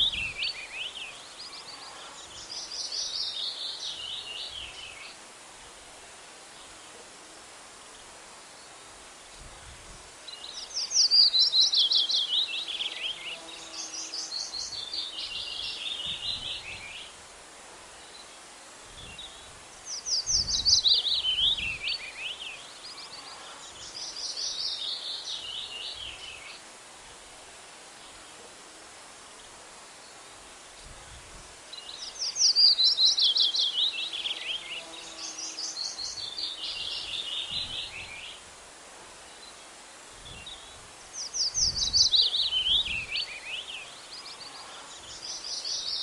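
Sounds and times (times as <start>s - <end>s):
outdoor ambience hiss: 0.0s - 46.0s.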